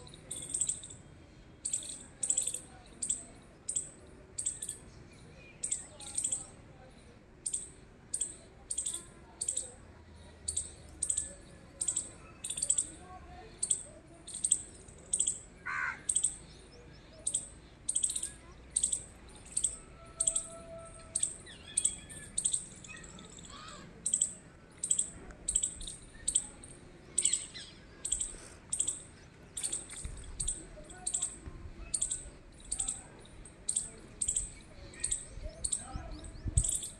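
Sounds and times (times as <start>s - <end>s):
small bird chirping: 0.0s - 1.0s, 1.6s - 4.8s, 5.4s - 6.6s, 7.4s - 9.8s, 10.4s - 20.5s, 21.2s - 36.9s.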